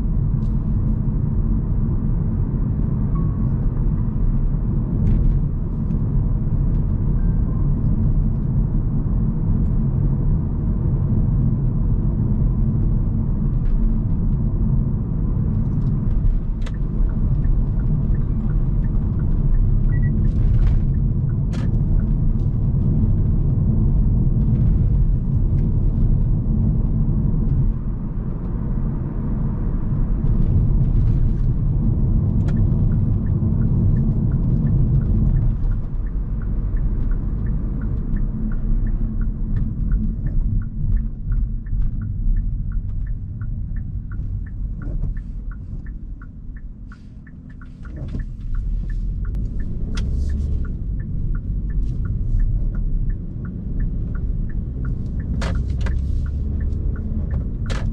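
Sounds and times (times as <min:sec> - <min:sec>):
car cabin road rumble: 0:00.0 - 0:57.9
turn signal ticking: 0:01.3 - 0:57.9.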